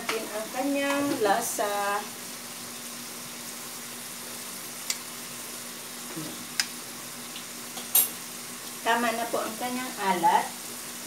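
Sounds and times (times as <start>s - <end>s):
egg and tuna sizzling in a wok: 0.0s - 11.0s.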